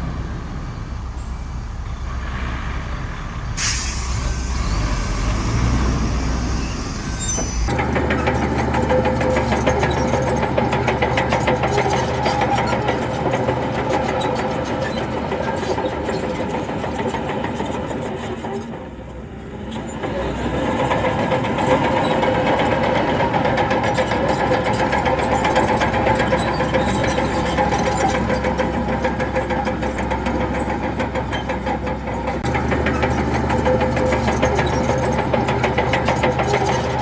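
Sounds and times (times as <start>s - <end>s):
heavy diesel engine droning: 0.0s - 37.0s.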